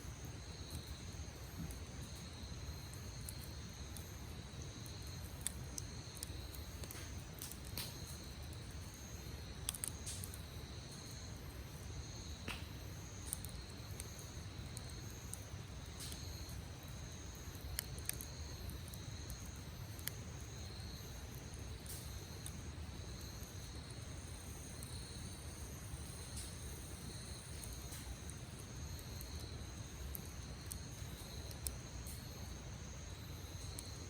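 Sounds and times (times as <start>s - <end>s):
crickets chirring: 0.0s - 34.0s
campfire crackling and popping: 0.1s - 34.0s.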